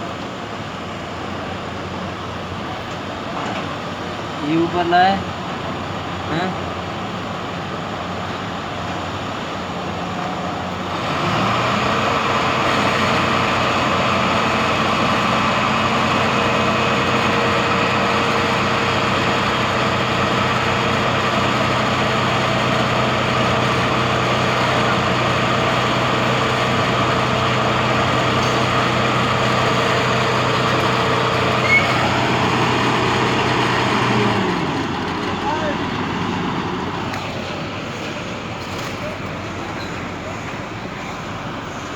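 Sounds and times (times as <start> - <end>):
heavy engine running: 0.0 - 41.9.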